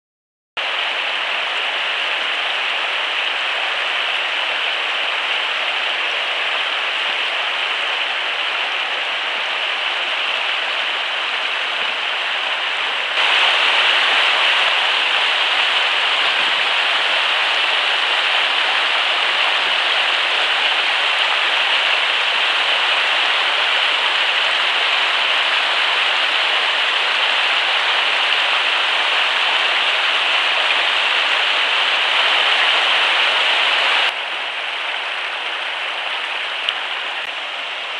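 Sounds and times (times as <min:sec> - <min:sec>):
stream rushing over rocks: 0:00.6 - 0:37.9.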